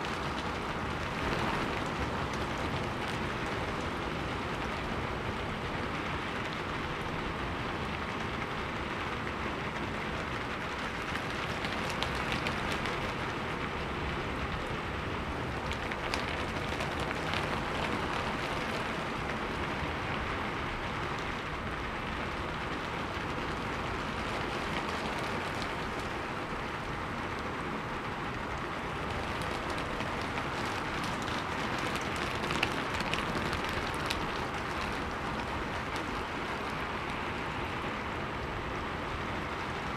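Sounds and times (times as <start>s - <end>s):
raindrops ticking: 0.0s - 38.5s
steady rain falling: 0.0s - 39.9s.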